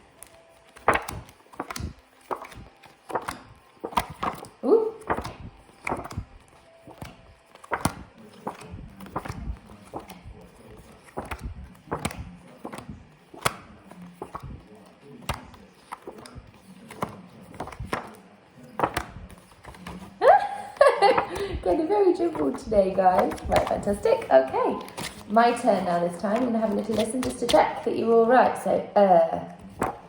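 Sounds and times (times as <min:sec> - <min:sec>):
flashcards flipping: 0:00.0 - 0:28.7, 0:29.6 - 0:30.0.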